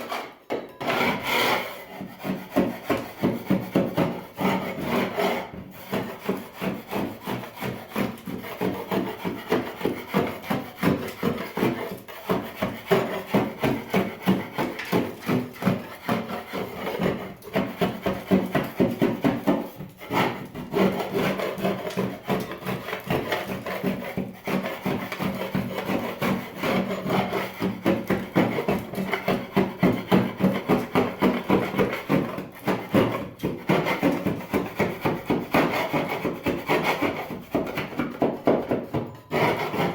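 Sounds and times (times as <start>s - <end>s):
scraper scraping paint: 0.0s - 38.0s.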